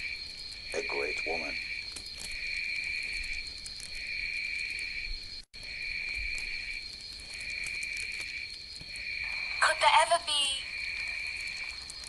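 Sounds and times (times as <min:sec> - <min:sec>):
high insect trill: 0:00.0 - 0:12.0
lower pulsing insect trill: 0:00.0 - 0:12.0.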